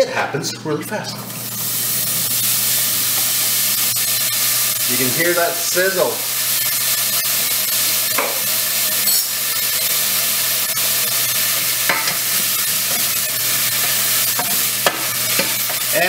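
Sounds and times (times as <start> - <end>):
eggplant sizzling in hot oil: 1.2 - 16.0.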